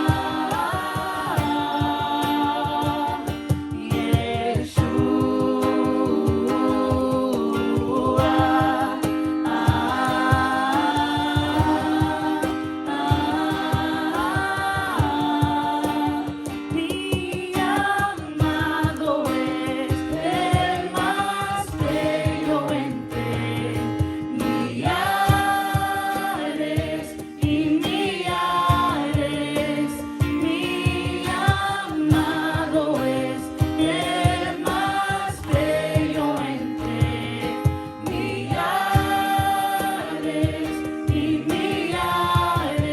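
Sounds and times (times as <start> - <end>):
fast rhythmic accompaniment: 0.0 - 42.9
group singing a worship song: 0.0 - 42.9.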